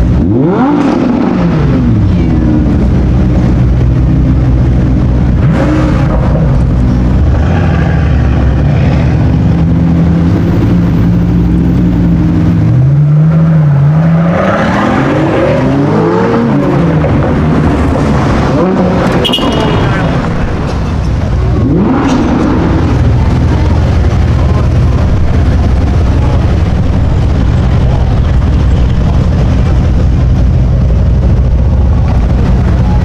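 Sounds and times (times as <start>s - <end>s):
sports car engine revving: 0.0s - 33.0s.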